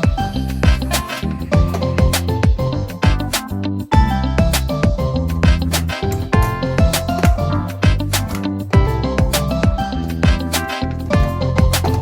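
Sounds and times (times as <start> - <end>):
upbeat music with plucked guitar: 0.0 - 12.0.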